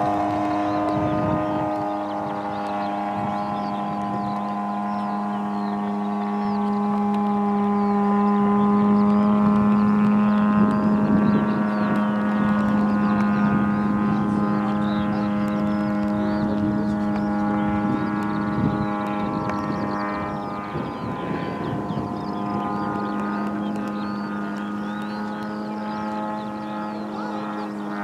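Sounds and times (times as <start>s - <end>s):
model plane engine droning: 0.0s - 28.0s.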